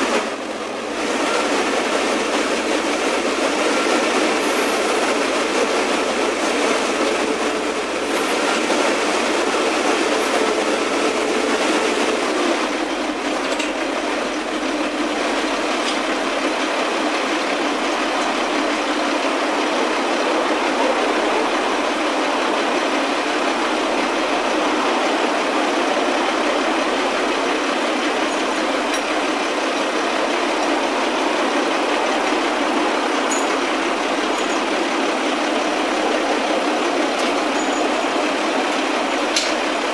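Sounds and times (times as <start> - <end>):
construction machinery engines running: 0.0 - 39.9.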